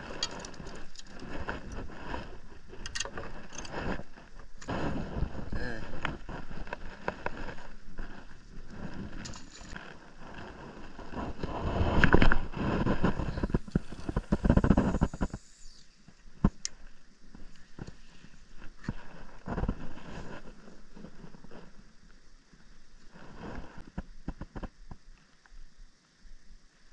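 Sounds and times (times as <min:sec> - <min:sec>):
microphone handling noise: 0:00.0 - 0:21.8.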